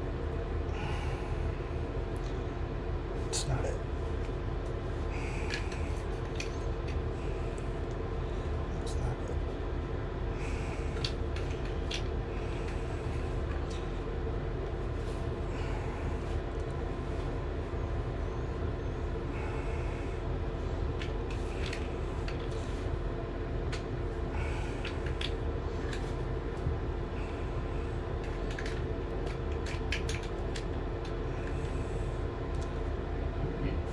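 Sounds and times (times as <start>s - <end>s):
low machine hum: 0.0s - 33.9s.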